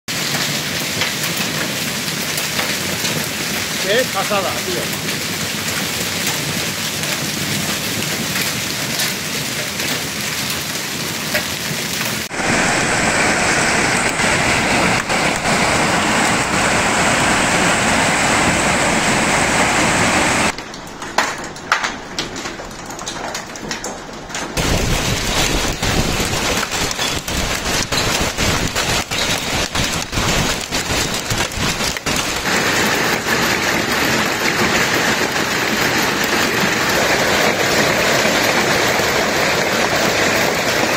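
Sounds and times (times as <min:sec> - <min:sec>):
hail and heavy rain pelting: 0:00.1 - 0:40.9.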